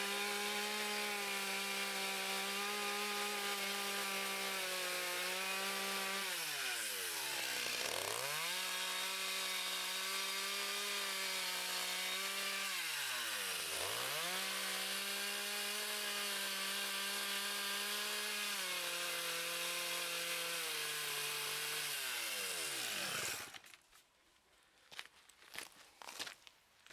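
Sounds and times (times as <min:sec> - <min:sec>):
chainsaw cutting wood: 0:00.0 - 0:23.8.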